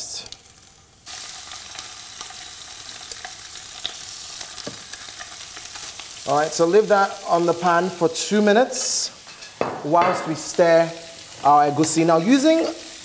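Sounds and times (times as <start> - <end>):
fish sizzling in a frying pan: 0.0 - 13.0.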